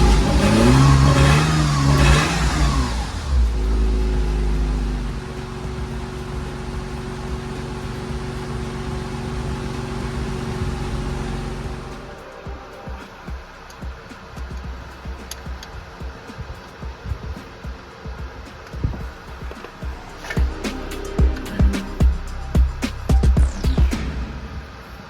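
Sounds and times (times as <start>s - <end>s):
car engine revving and idling: 0.0s - 25.0s.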